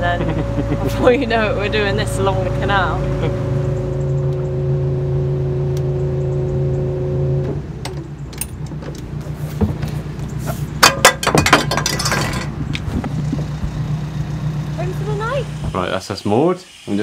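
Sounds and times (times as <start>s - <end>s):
diesel boat engine running: 0.0s - 10.9s, 12.4s - 15.9s.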